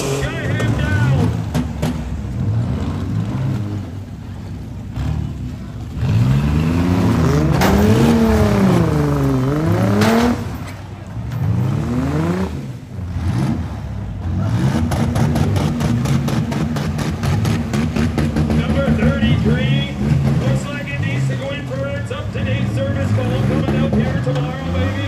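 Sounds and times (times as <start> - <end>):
minivan engines revving: 0.0 - 25.0.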